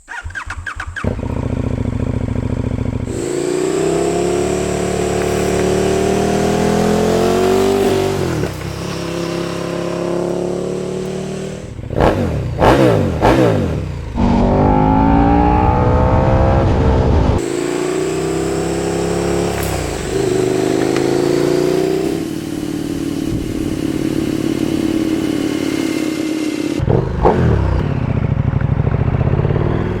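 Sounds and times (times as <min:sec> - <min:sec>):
motorcycle engine accelerating: 0:00.0 - 0:30.0
quick sharp engine revs: 0:03.0 - 0:28.1.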